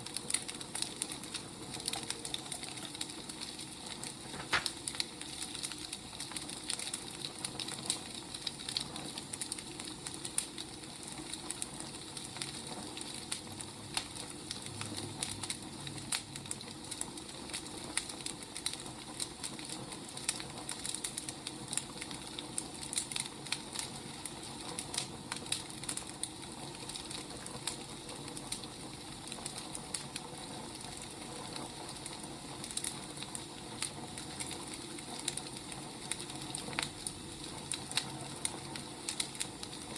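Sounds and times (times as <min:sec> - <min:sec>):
firewood burning and crackling: 0:00.0 - 0:39.9.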